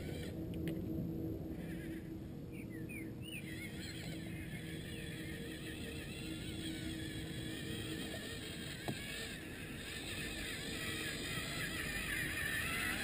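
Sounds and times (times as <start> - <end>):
toy excavator motors whining: 0.0 - 0.4, 1.5 - 2.1, 3.4 - 13.0.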